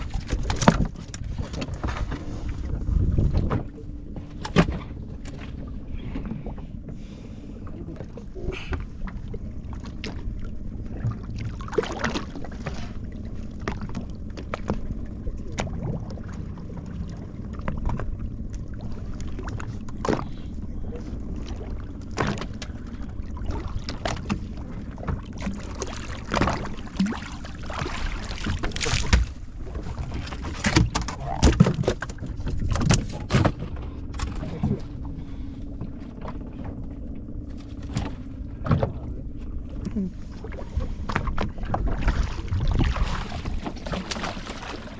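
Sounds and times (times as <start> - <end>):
boat low rumble: 0.0 - 44.9.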